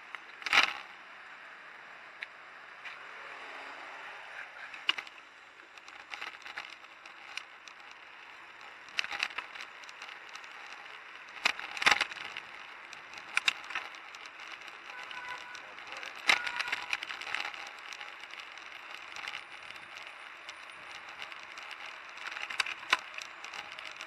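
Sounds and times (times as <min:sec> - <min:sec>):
wind and street hiss: 0:00.0 - 0:24.0
bike rattling over bumps: 0:04.6 - 0:24.0.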